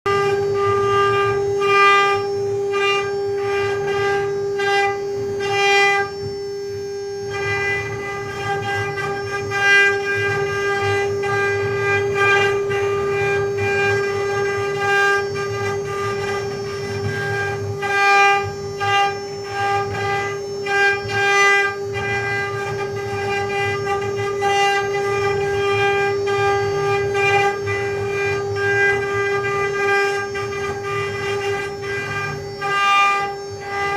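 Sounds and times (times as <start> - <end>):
router spindle whining: 0.1 - 33.9.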